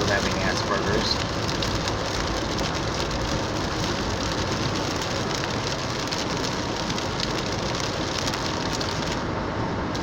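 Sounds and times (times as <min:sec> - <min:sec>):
heavy rain on a car: 0:00.0 - 0:10.0
tyre and road noise: 0:00.0 - 0:10.0.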